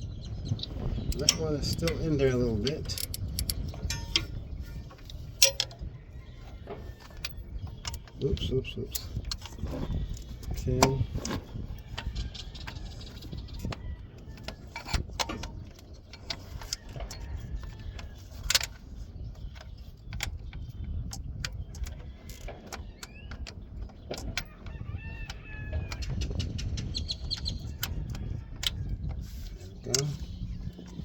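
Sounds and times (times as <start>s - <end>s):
hand tools clicking on metal: 1.1s - 4.4s, 5.0s - 5.9s, 7.0s - 31.0s.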